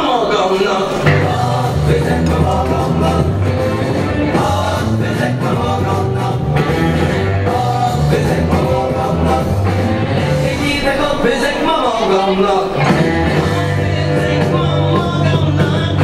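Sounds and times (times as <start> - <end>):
pop-rock song with singing: 0.0 - 16.0.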